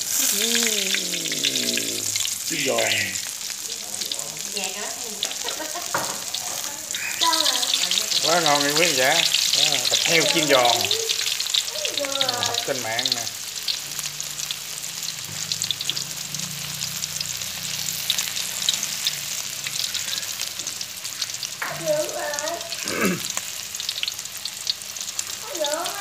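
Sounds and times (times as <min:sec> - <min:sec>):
pork sizzling in hot oil: 0:00.0 - 0:26.0.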